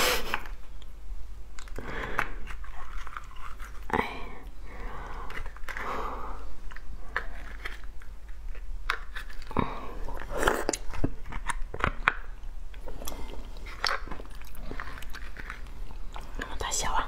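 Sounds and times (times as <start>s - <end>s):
chewing: 1.6s - 5.9s, 6.6s - 16.6s.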